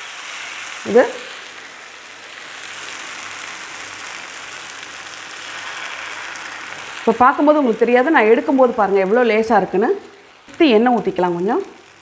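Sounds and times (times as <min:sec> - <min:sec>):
batter sizzling on a hot griddle: 0:00.0 - 0:12.0.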